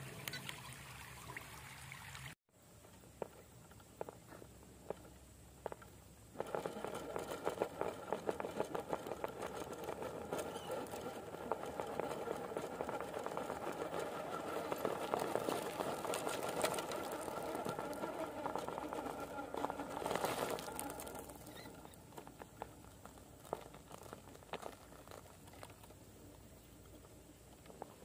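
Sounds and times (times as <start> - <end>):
tyres ticking on stone: 2.9 - 28.0.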